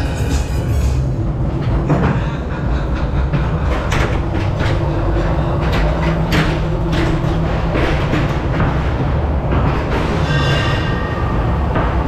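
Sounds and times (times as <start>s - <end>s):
ride car rumbling along track: 0.0s - 12.0s
sharp knocks and clatters: 1.6s - 12.0s.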